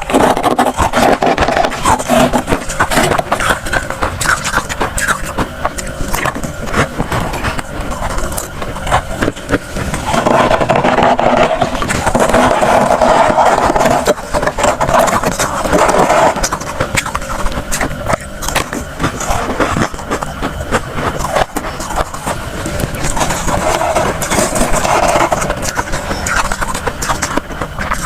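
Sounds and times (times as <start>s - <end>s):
freezer frost crunching: 0.0s - 28.0s.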